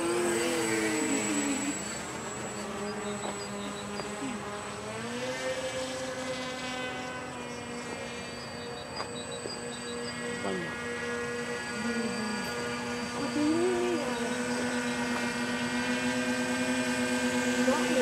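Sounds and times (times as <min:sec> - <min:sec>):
model aircraft propeller drone: 0:00.0 - 0:18.0.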